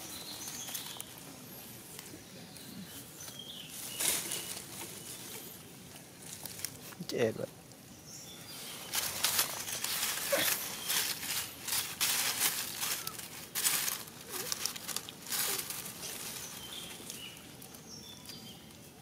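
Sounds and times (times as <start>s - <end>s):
dry leaves rustling: 0.0s - 7.4s, 8.2s - 19.0s.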